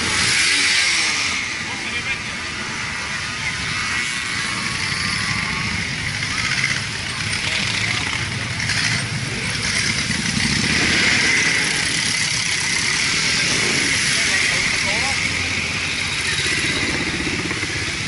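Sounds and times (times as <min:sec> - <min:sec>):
motorcycles riding past: 0:00.0 - 0:18.0
scooters passing: 0:00.0 - 0:18.0.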